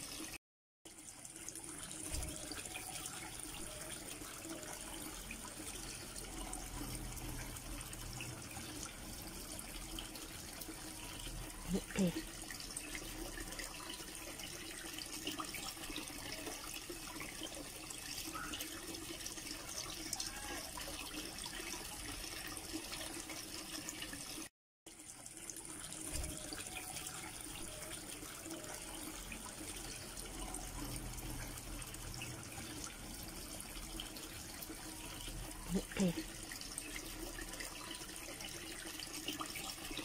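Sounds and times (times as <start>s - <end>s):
aquarium water bubbling: 0.0s - 40.0s.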